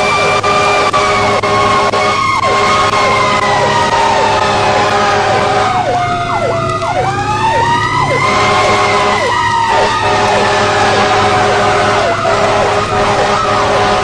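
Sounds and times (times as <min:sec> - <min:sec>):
fast sweeping siren: 0:00.0 - 0:14.0
wailing siren: 0:00.0 - 0:14.0.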